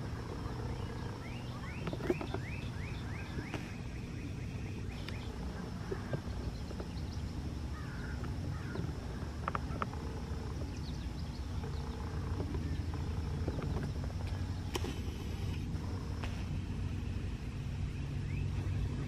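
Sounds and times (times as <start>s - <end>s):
bird chirping: 0.0s - 15.0s, 17.7s - 19.0s
faint hum: 0.0s - 19.0s
steady low rumble: 0.0s - 19.0s.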